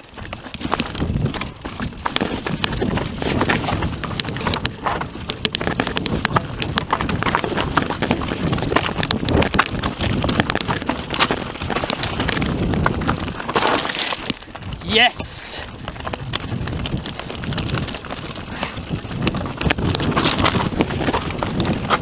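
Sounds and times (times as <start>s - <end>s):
bike rattling over loose stones: 0.0s - 22.0s
wind noise on microphone: 0.0s - 22.0s.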